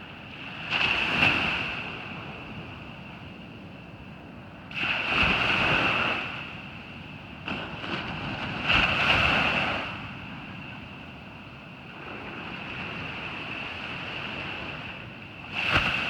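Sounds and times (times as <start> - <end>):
waves crashing on beach: 0.0 - 16.0.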